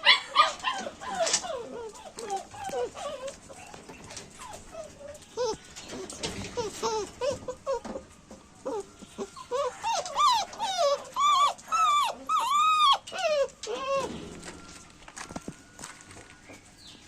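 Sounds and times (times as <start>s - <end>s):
dog whining: 0.0s - 14.8s.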